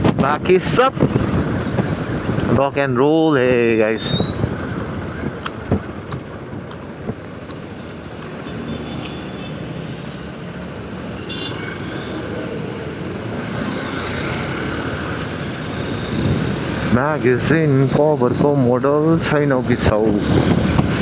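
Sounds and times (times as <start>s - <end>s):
wind noise: 0.0s - 8.5s, 12.1s - 21.0s
road noise: 0.0s - 21.0s.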